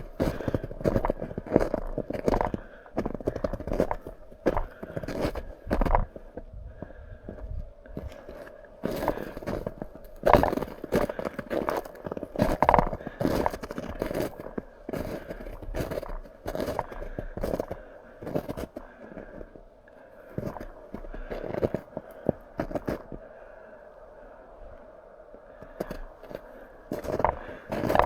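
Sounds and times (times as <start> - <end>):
footsteps crunching through snow: 0.0 - 6.3, 8.0 - 19.4, 20.4 - 23.1, 25.8 - 28.0.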